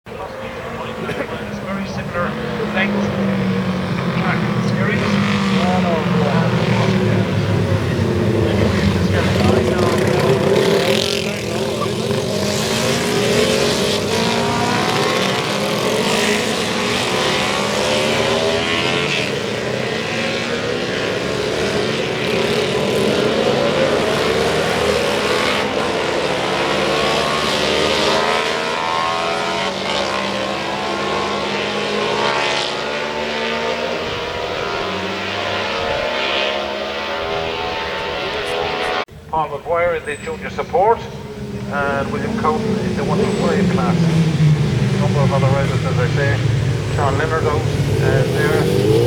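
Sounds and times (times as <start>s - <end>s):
racing motorcycle engines: 0.0s - 49.0s.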